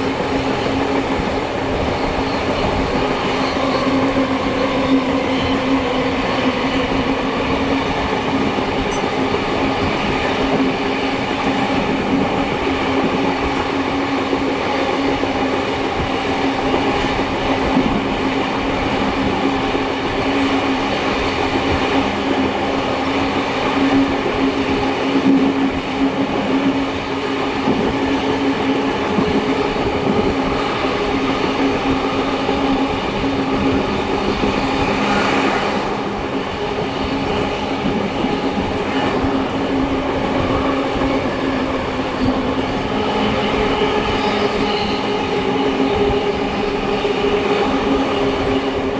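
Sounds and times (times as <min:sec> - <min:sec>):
train rolling noise: 0:00.0 - 0:48.9.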